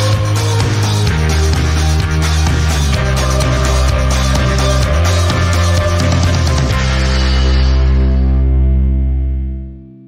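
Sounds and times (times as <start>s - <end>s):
loud music with steady beat: 0.0s - 8.8s.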